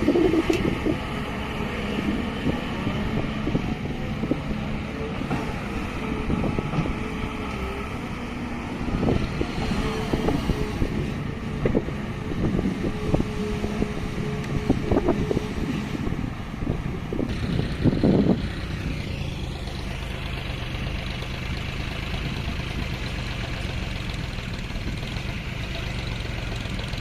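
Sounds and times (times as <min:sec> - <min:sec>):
heavy machinery diesel engine running: 0:00.0 - 0:27.0.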